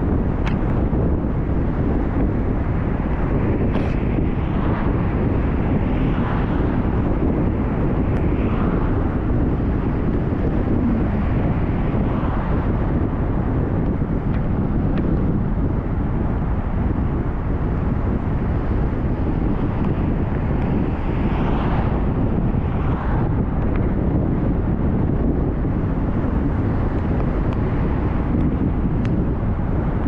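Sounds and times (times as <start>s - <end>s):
vehicle rumbling: 0.0s - 30.0s
wind buffeting microphone: 0.0s - 30.0s.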